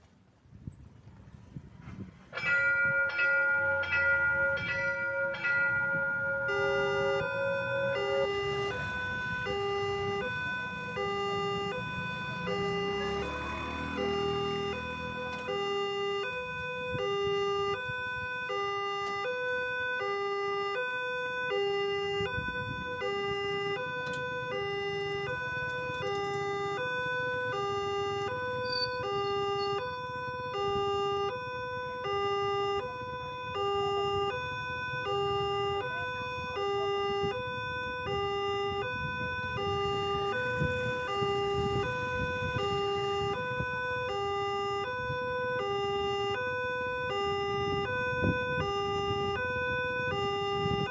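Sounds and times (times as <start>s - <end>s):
two-tone crossing alarm: 2.3s - 50.9s.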